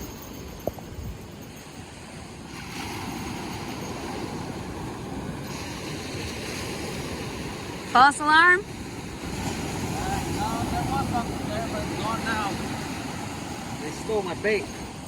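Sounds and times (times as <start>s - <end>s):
ocean surf washing on beach: 0.0s - 15.0s
wind on microphone: 0.0s - 15.0s.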